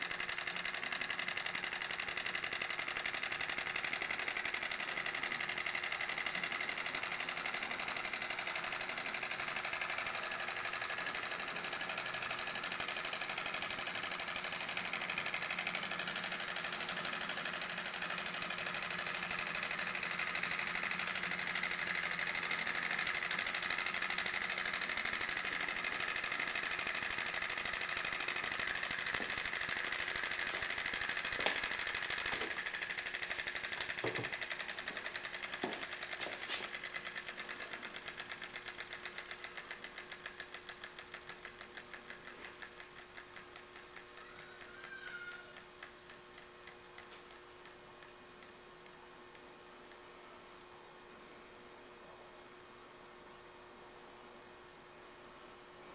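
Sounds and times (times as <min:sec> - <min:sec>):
fast mechanical clatter: 0:00.0 - 0:50.0.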